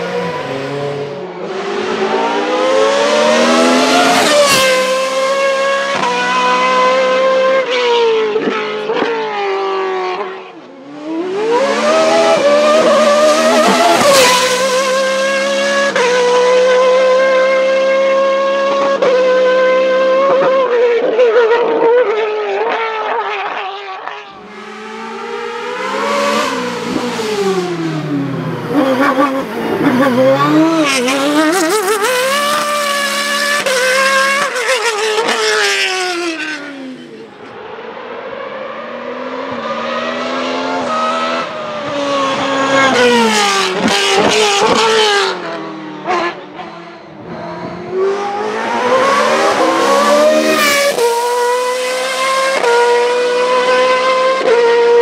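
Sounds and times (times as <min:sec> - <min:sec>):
racing car engines at high revs: 0:00.0 - 0:55.0.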